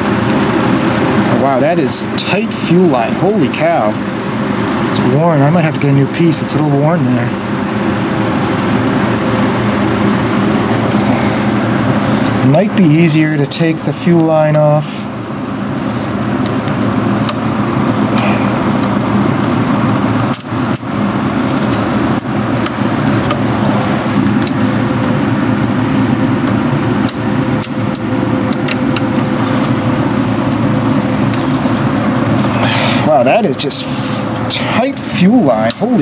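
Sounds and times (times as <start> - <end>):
steady mechanical hum: 0.0 - 36.0.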